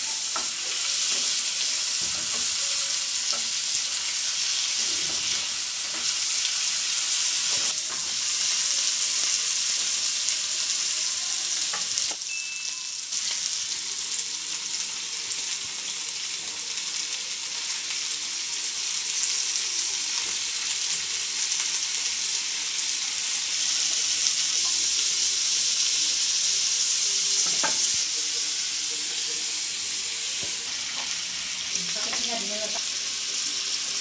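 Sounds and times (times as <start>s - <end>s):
oil sizzling in frying pan: 0.0s - 34.0s.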